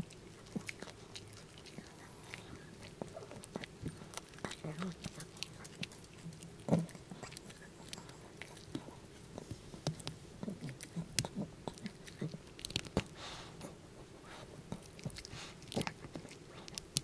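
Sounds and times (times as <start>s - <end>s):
dog crunching bone: 0.0s - 13.3s, 14.6s - 17.0s.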